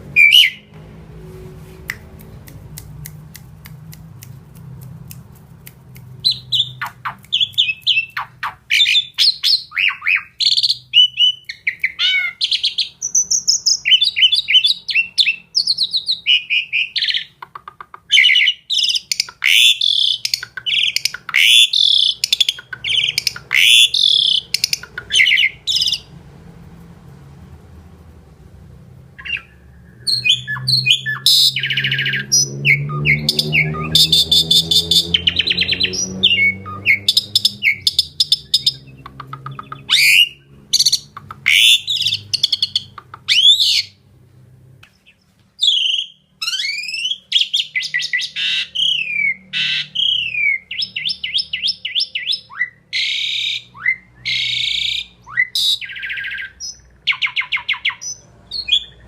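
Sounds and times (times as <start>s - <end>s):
starling singing: 0.1s - 0.7s, 6.1s - 26.2s, 29.1s - 44.0s, 45.0s - 59.0s.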